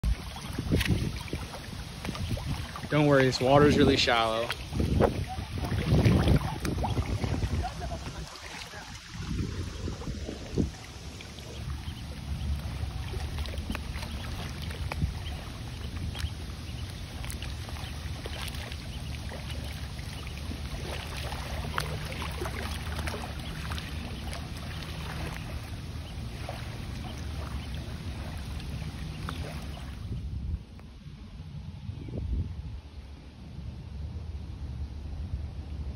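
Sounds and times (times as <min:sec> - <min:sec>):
small clicks and splashes in water: 0:00.0 - 0:30.0
water lapping at lake edge: 0:00.0 - 0:31.6
wind rumbling on microphone: 0:00.0 - 0:35.9.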